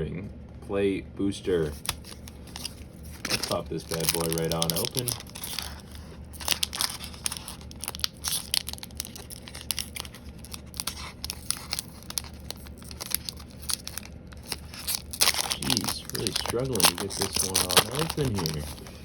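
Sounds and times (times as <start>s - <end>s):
plastic wrapper crinkling and tearing: 1.5s - 19.0s.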